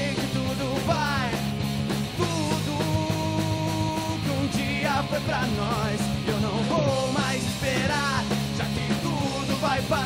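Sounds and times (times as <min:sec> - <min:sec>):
drum kit: 0:00.0 - 0:10.0
electric bass: 0:00.0 - 0:10.0
electric guitar lead line: 0:00.0 - 0:10.0.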